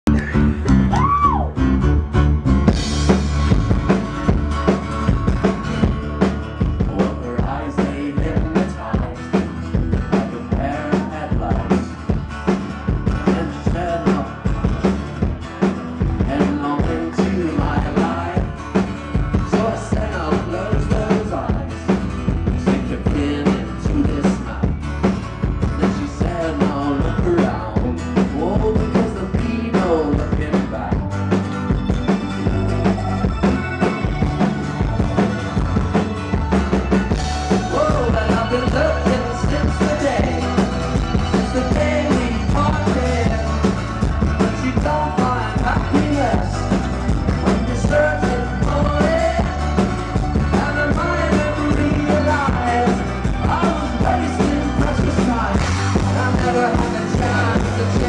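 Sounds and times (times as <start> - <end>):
live band playing: 0.0 - 58.0
drum kit beat: 2.5 - 58.0.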